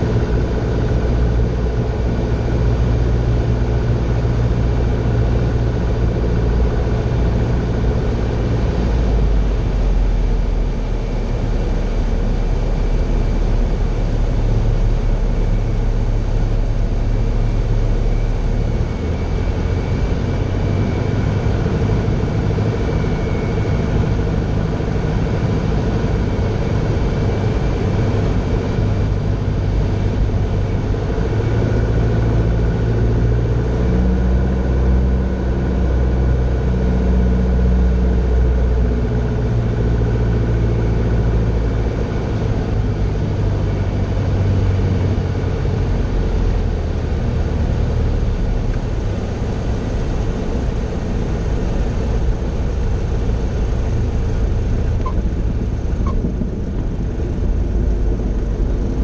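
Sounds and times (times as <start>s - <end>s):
airplane piston engine and propeller: 0.0s - 59.0s.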